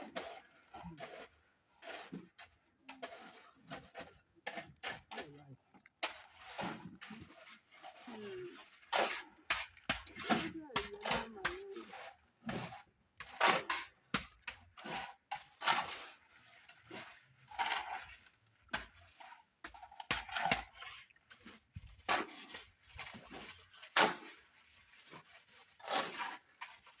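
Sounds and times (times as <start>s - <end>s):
scrapes and knocks: 0.1s - 27.0s.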